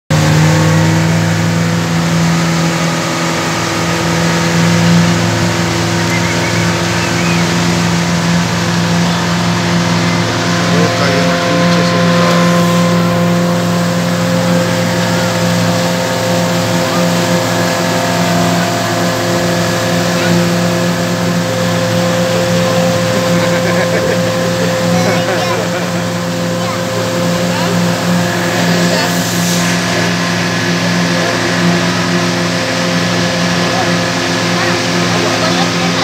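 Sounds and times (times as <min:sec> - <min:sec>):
boat motor droning: 0:00.0 - 0:36.0.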